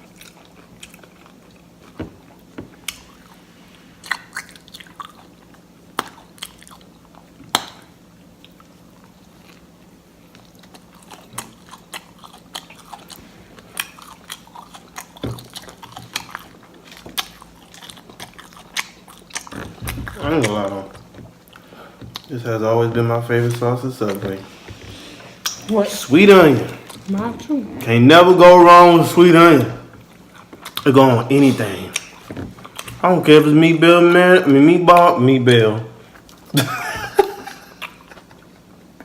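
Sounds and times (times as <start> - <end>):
chewing and biting sandwich: 0.0 - 22.6, 23.3 - 27.1, 27.8 - 34.2, 37.2 - 39.0
faint low hum: 0.0 - 39.0.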